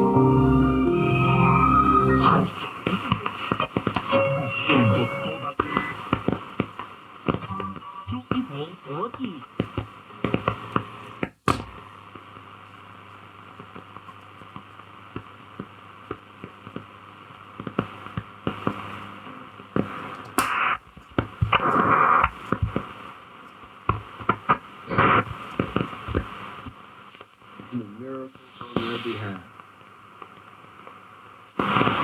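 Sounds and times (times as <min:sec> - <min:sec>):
shortwave radio hiss: 0:00.0 - 0:11.3, 0:16.7 - 0:32.0
crackling static clicks: 0:02.6 - 0:04.1, 0:05.5 - 0:27.8, 0:28.4 - 0:32.0.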